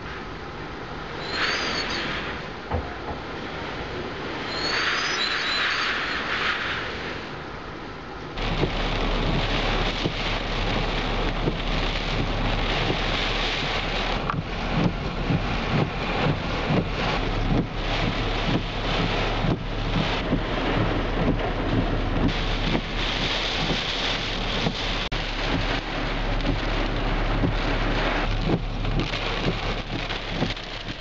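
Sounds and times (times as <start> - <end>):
heavy driving rain: 0.0 - 31.0
strong gusting wind: 0.0 - 31.0.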